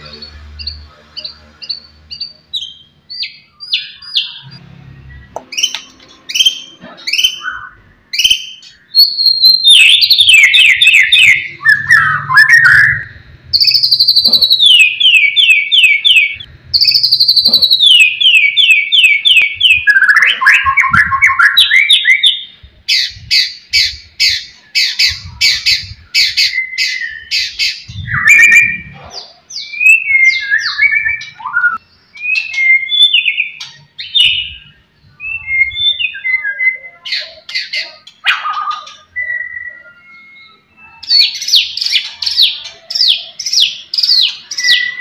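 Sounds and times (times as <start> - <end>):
songbird singing: 0.0 - 45.0.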